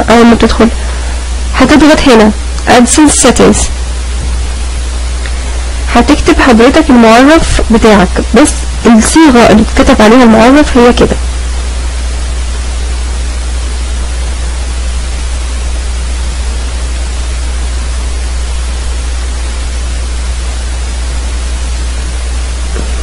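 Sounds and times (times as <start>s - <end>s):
low hum: 0.0s - 23.0s
microphone hiss: 0.0s - 23.0s.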